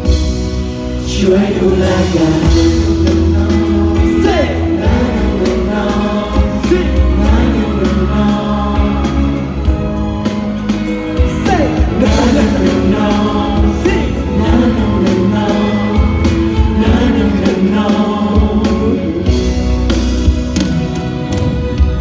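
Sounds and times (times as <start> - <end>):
pop song with beat and guitar: 0.0 - 22.0
men singing: 0.9 - 20.0.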